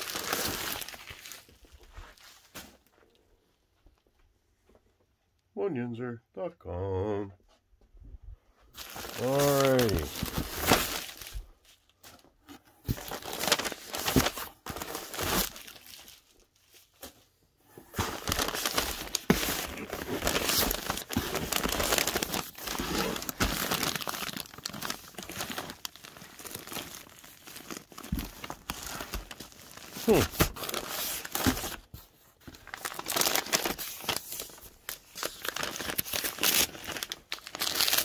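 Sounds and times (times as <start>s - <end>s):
plastic envelopes crinkling: 0.0s - 2.9s, 8.7s - 38.0s.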